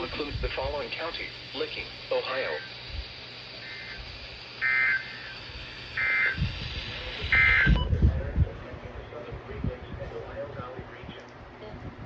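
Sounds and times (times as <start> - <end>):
radio background hiss: 0.0 - 11.7.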